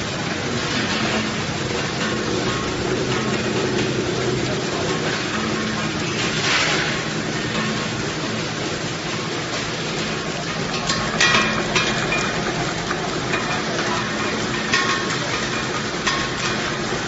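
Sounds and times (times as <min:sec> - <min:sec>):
wrapping machine running: 0:00.0 - 0:17.0
sharp clicks and crackles: 0:00.3 - 0:17.0.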